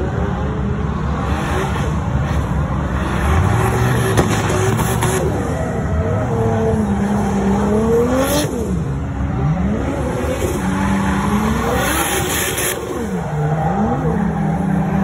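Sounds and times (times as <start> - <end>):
car engine revving hard: 1.2 - 15.0.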